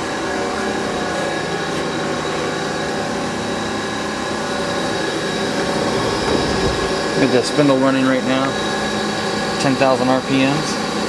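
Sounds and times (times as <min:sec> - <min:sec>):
lathe running with whine: 0:00.0 - 0:11.0.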